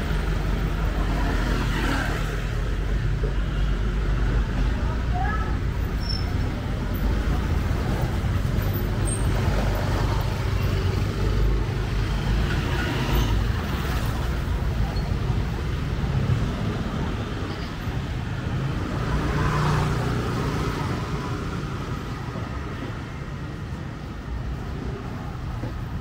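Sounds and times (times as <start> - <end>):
street traffic: 0.0 - 26.0.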